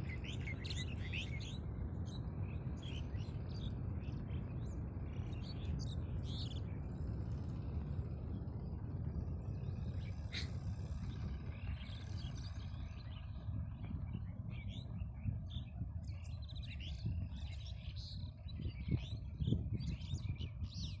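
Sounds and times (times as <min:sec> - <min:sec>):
small birds chirping: 0:00.0 - 0:08.8, 0:09.5 - 0:21.0.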